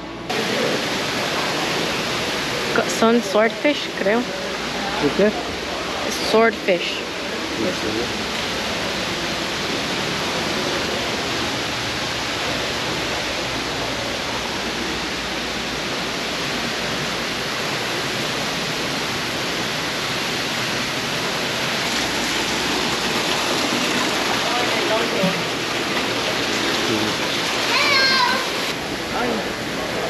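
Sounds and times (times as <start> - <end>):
waterfall pouring into pond: 0.3 - 6.4, 7.0 - 30.0.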